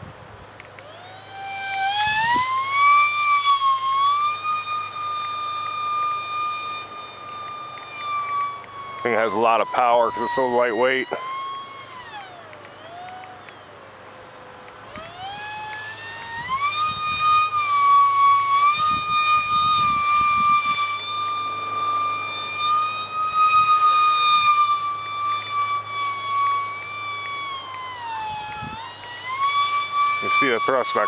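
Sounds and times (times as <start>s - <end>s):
electric ducted fan whining: 0.0s - 31.0s.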